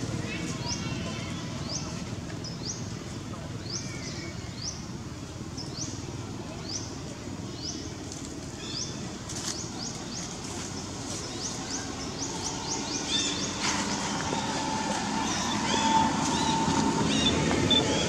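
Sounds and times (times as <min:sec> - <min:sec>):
low outdoor background rumble: 0:00.0 - 0:18.0.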